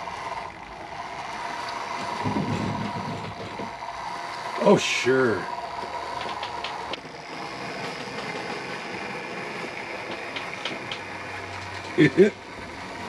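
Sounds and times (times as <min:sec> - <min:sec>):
model train motor whir: 0:00.0 - 0:13.0
wheels clicking on rails: 0:00.0 - 0:13.0.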